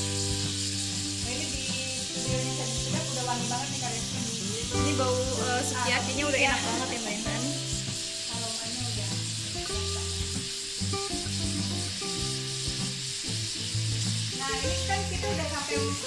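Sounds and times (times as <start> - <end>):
background music: 0.0 - 16.0
meat sizzling in a pan: 0.0 - 16.0.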